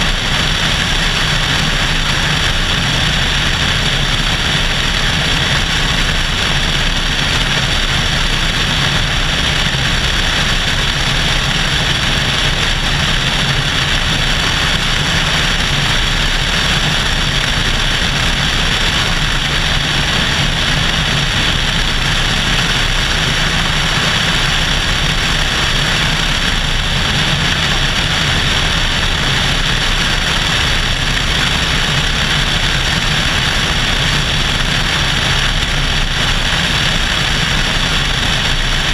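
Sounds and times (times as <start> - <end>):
airplane engine and propeller: 0.0 - 38.9.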